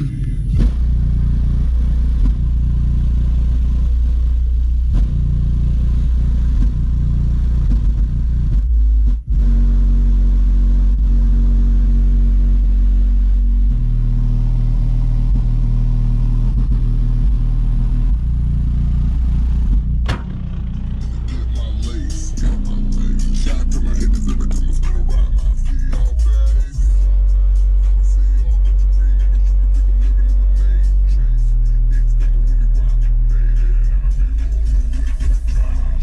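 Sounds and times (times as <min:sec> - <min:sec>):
subwoofer playing bass-heavy song: 0:00.0 - 0:36.0.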